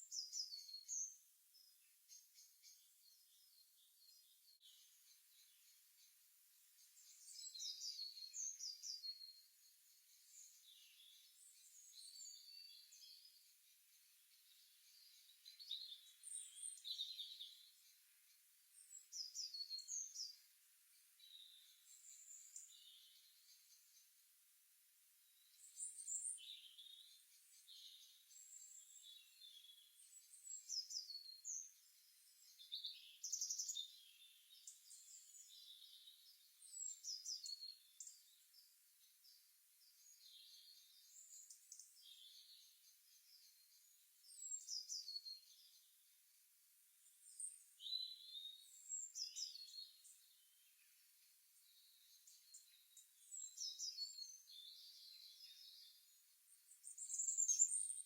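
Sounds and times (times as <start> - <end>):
songbirds chirping and singing: 0.0 - 24.4, 25.2 - 46.2, 47.0 - 58.0
faint steady hiss: 0.0 - 58.0.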